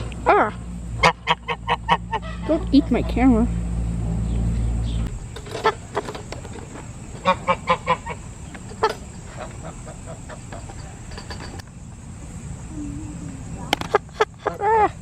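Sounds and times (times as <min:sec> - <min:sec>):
fowl calling: 0:00.0 - 0:04.0, 0:04.6 - 0:11.1, 0:12.7 - 0:15.0.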